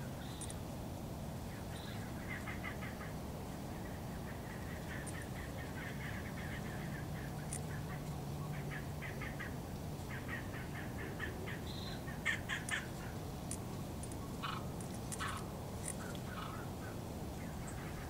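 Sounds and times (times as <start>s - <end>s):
birds calling: 1.5s - 18.0s.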